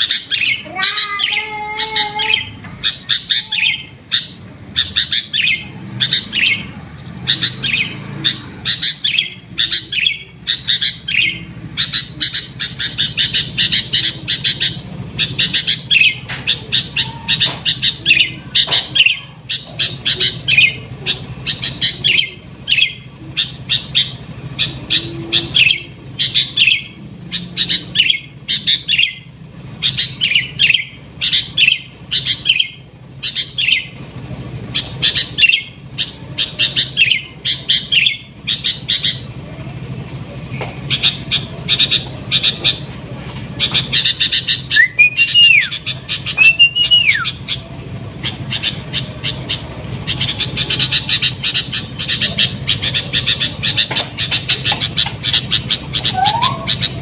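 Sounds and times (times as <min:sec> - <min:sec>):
bulbul singing chirping notes: 0:00.0 - 0:57.0.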